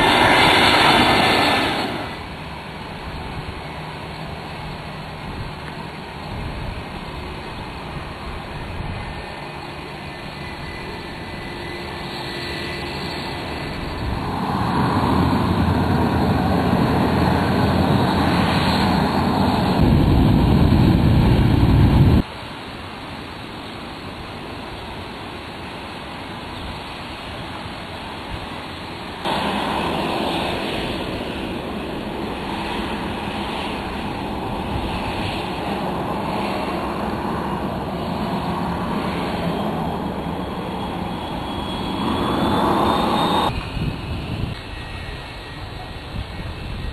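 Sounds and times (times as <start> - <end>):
jet engines rushing: 0.0 - 46.9.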